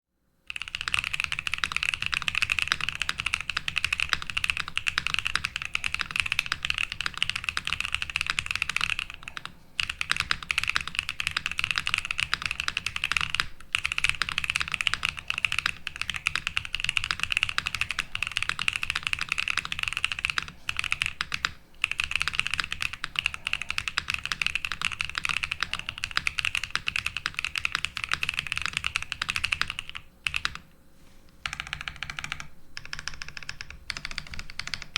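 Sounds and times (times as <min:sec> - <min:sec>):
mechanical keyboard typing: 0:00.5 - 0:30.6, 0:31.4 - 0:34.9.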